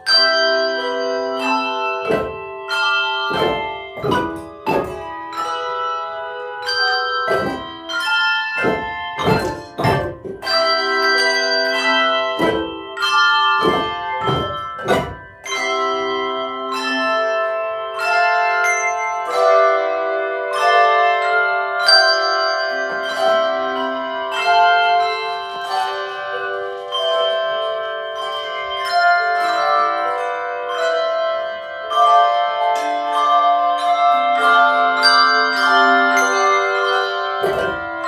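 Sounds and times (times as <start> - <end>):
handbell ensemble playing: 0.0 - 38.0.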